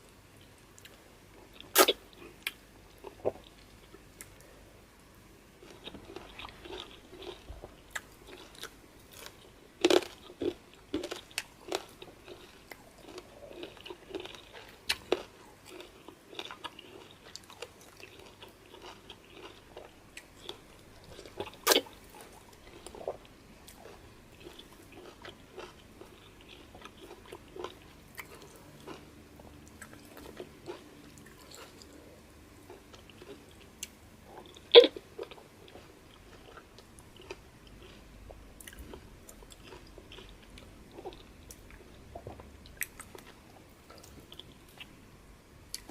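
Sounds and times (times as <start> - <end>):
man chewing and smacking: 5.6 - 31.9, 34.3 - 44.9.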